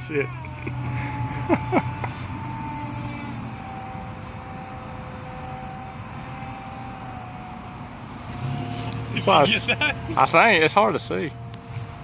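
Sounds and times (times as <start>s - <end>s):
electric motor and propeller whining: 0.0s - 12.0s
low hum: 0.0s - 12.0s.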